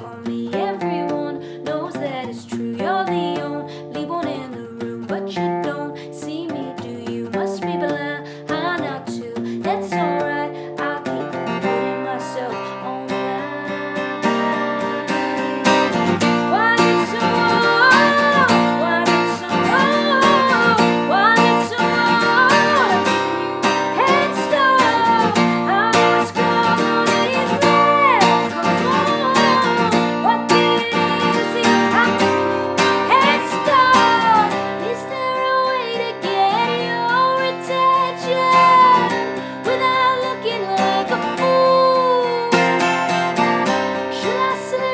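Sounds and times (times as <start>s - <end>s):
acoustic guitar strumming: 0.0s - 44.9s
woman singing: 0.0s - 44.9s.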